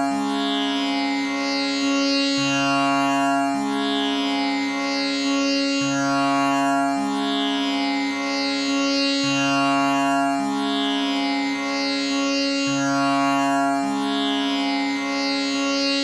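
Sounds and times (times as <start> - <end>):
tanpura drone: 0.0 - 16.0.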